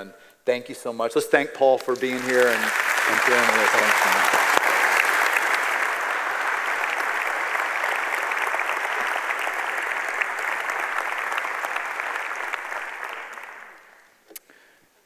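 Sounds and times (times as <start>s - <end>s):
congregation applauding: 1.8s - 14.2s.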